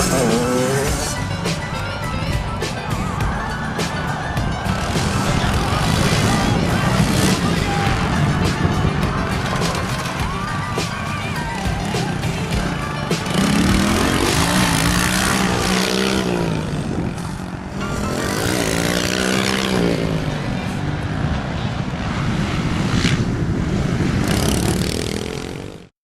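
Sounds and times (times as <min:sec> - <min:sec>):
dirt bike engine revving: 0:00.0 - 0:01.8, 0:03.8 - 0:25.9.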